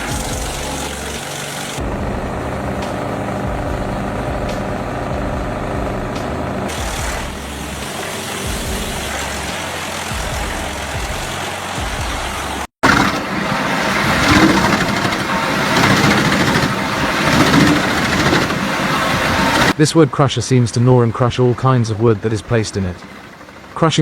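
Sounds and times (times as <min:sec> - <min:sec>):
engine-driven machine running: 0:00.0 - 0:19.8, 0:21.3 - 0:24.0
machine grinding and crushing wood: 0:00.0 - 0:19.8.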